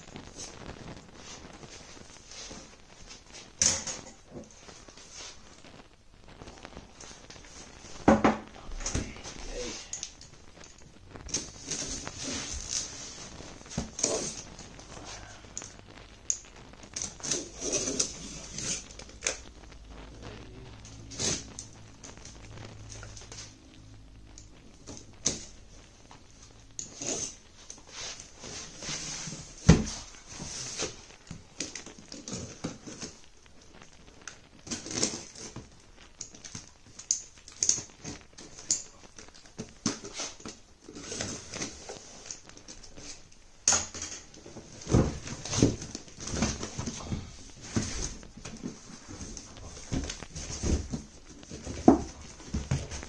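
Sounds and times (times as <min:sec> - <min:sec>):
cardboard and tape rustling: 0:00.0 - 0:53.0.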